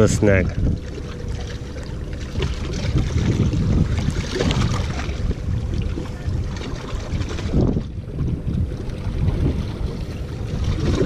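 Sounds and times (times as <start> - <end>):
small waves lapping on rocks: 0.0 - 11.0
wind rumbling on microphone: 0.0 - 11.0.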